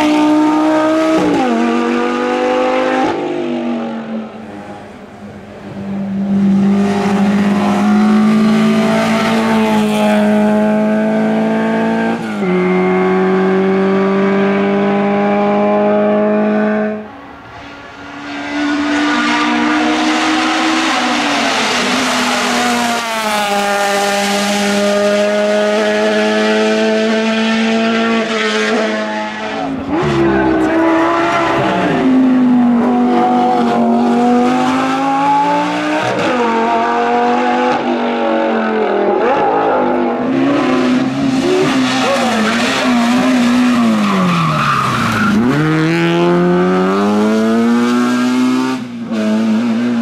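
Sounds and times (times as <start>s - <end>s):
race car engine at full throttle: 0.0s - 50.0s.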